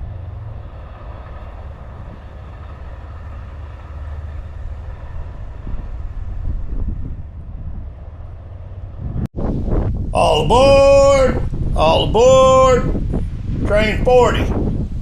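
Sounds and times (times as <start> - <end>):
low buffeting: 0.0 - 15.0
train low rumble: 0.0 - 15.0.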